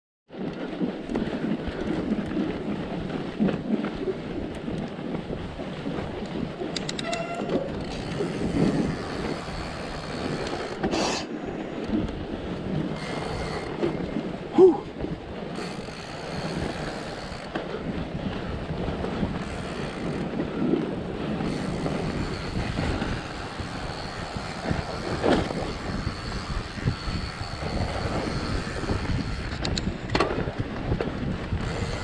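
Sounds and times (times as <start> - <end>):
bike tyres rumbling on snow: 0.3 - 32.0.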